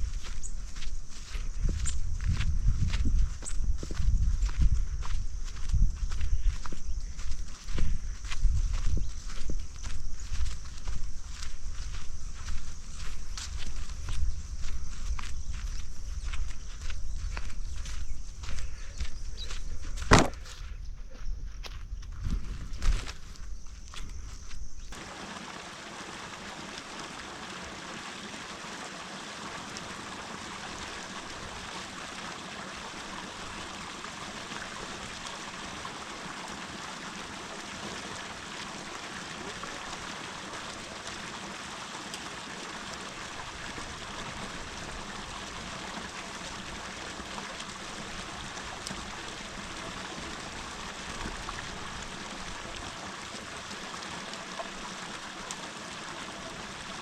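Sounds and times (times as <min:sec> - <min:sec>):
creek water flowing: 0:00.0 - 0:21.8, 0:22.4 - 0:57.0.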